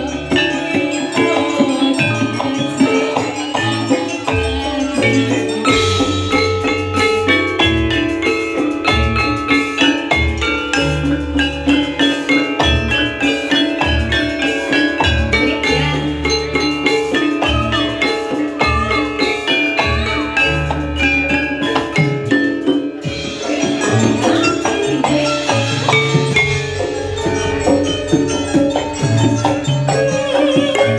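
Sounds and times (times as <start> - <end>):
hand drum beating: 0.0 - 30.9
metallophones struck with mallets: 0.0 - 30.9.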